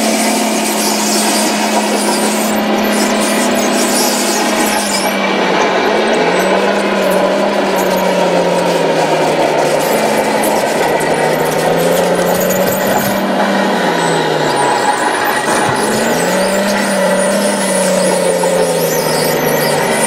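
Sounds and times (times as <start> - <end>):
model dozer motor hum: 0.0 - 20.0.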